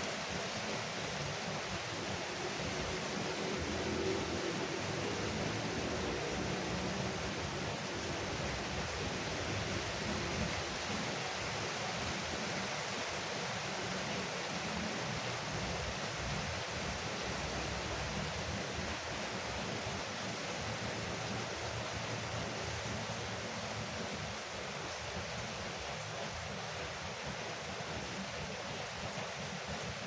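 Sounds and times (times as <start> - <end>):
rain on a roof: 0.0 - 30.0.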